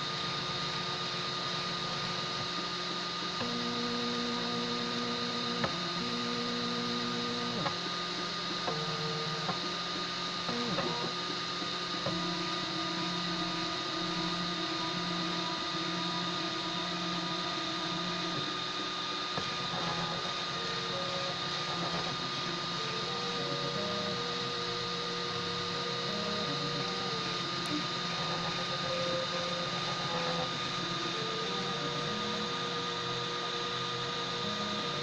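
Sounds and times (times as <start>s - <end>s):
stepper motors whining: 0.0s - 35.0s.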